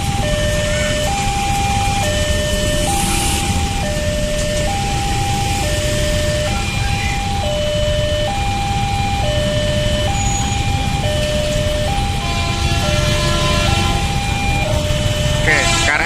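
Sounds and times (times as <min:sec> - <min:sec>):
motorcycles idling: 0:00.0 - 0:16.0
two-tone crossing alarm: 0:00.0 - 0:16.0.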